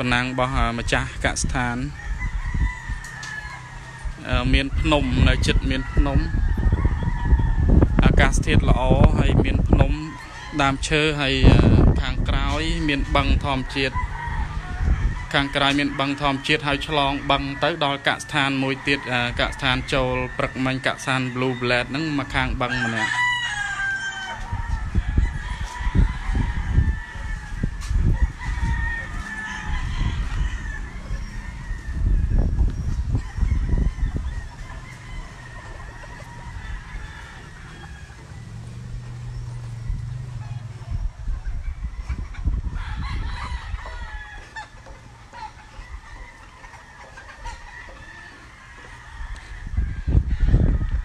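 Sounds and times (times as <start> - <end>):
roosters crowing: 0.0 - 51.0.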